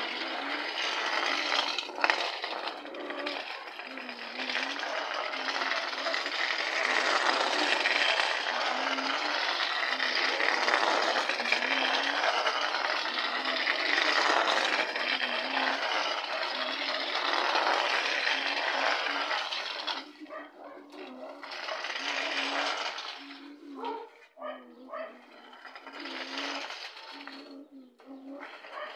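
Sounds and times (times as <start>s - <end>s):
toy truck rattling over bricks: 0.0s - 28.9s.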